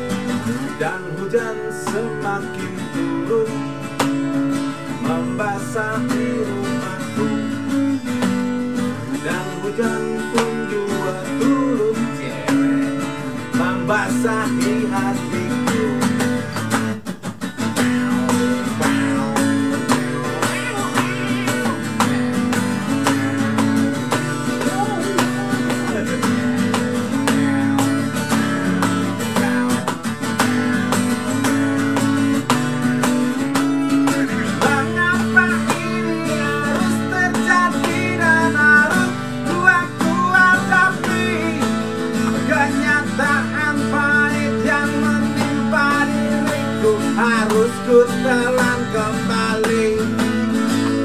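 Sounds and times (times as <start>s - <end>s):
acoustic guitar strumming: 0.0s - 51.0s
wordless vocal melody: 0.0s - 51.0s.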